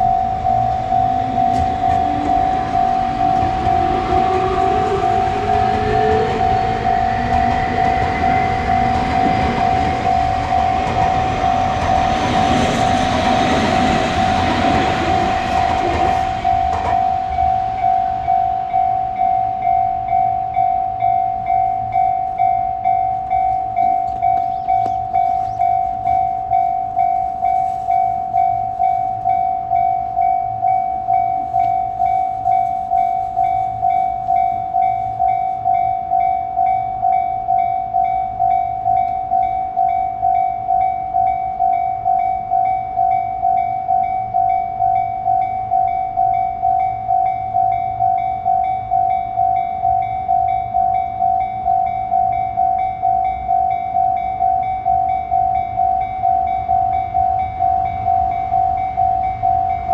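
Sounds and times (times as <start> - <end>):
railroad crossing warning bell: 0.0 - 59.9.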